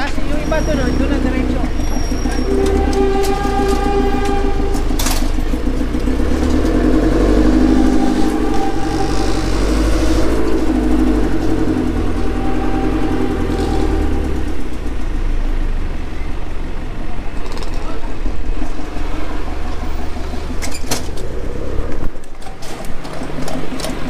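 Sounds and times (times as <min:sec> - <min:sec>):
vehicle engine rumbling: 0:00.0 - 0:24.0.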